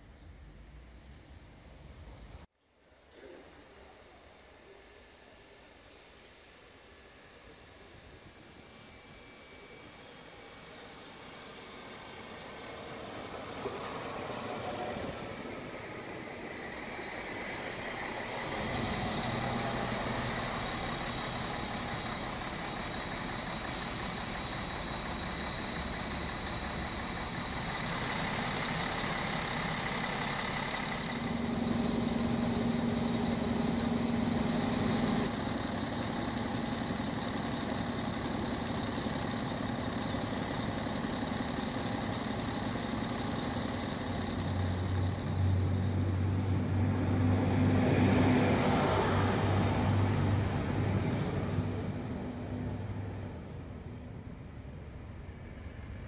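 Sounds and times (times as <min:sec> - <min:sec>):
diesel engine running: 0:11.1 - 0:56.0.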